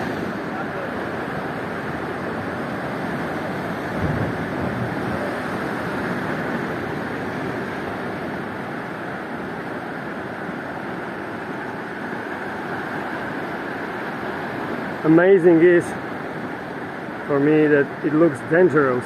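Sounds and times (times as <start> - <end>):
ocean surf rushing: 0.0 - 19.0.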